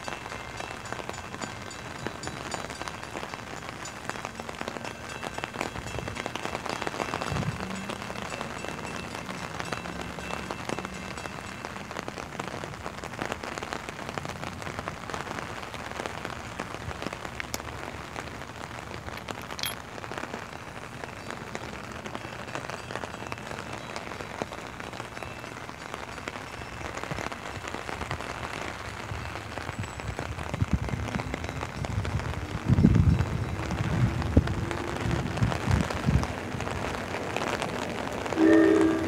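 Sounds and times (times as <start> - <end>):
rain pattering on an umbrella: 0.0 - 39.0.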